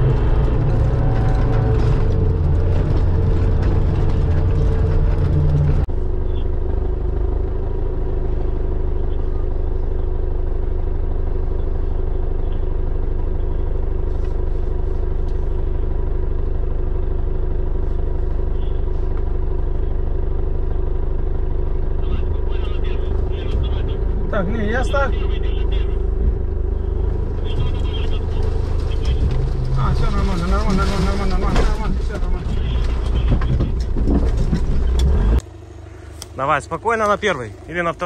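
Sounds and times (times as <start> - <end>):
engine idling: 0.0 - 38.0
off-road vehicle engine driving: 0.0 - 38.0
vehicle rattling: 0.0 - 38.0.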